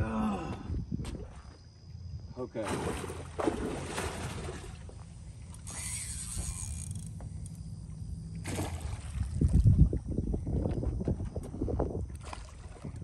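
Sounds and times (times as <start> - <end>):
water splashing and sloshing: 0.7 - 13.0.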